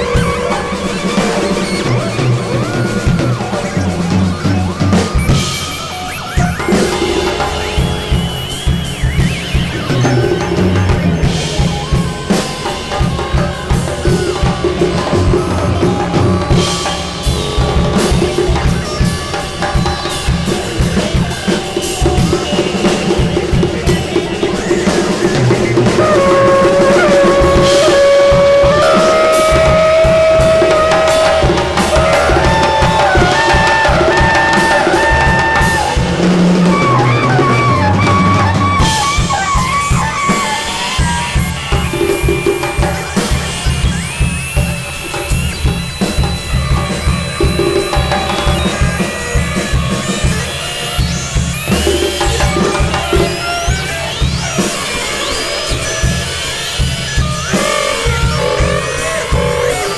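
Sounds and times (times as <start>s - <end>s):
busy drumming and percussion: 0.0s - 59.9s
held pitched melodic line: 0.0s - 59.9s.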